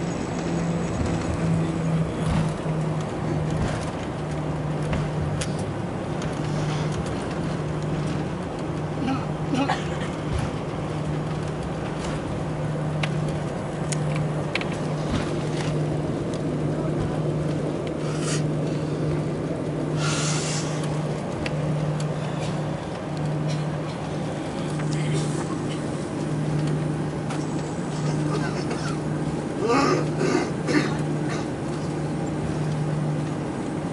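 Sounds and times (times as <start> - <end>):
aircraft engine and airflow roar: 0.0 - 33.9
pulsing low hum: 0.0 - 33.9.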